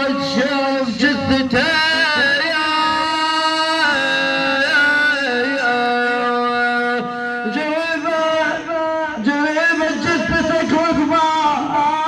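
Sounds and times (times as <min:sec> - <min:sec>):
man singing a mournful lament: 0:00.0 - 0:12.0.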